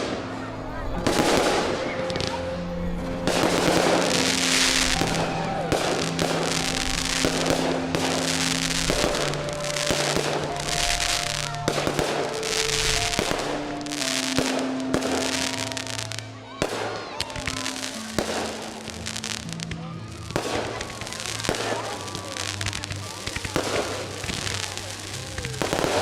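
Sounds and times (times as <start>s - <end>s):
fireworks bangs: 0.0s - 26.0s
fireworks crackling: 0.0s - 26.0s
music with long held notes: 0.0s - 26.0s.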